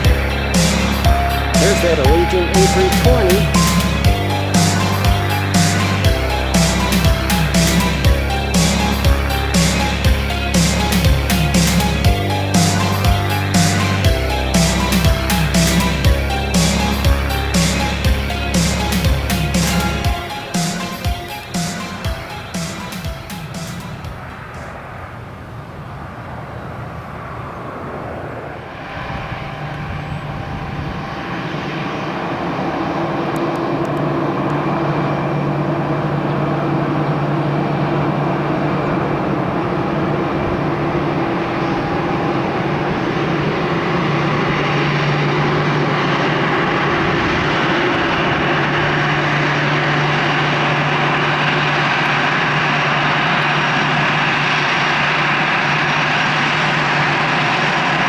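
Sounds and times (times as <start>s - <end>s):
jet engines droning with whine: 0.0s - 58.0s.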